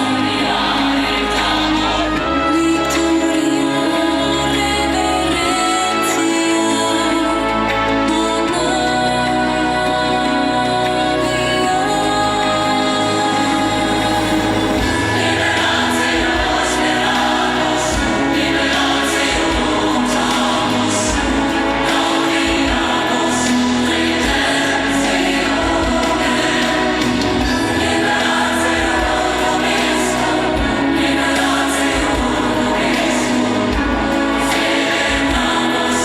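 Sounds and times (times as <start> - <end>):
choir singing music: 0.0 - 36.0.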